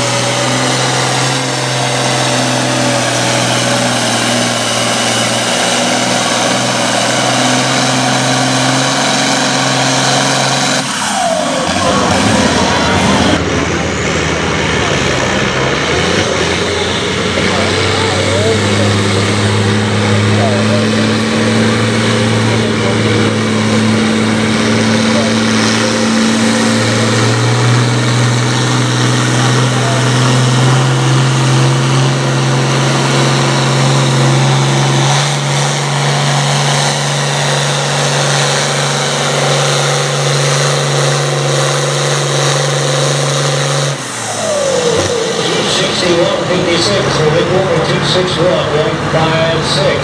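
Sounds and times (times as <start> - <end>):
engine with wavering pitch: 0.0 - 50.0
tractor engine under load: 0.0 - 50.0.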